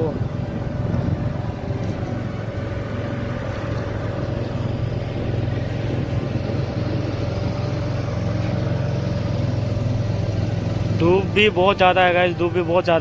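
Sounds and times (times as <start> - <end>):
motor engine humming: 0.0 - 13.0.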